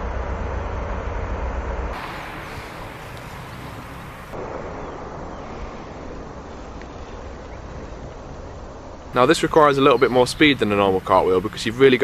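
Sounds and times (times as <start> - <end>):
low rumble: 0.0 - 12.0
wind on microphone: 2.0 - 12.0.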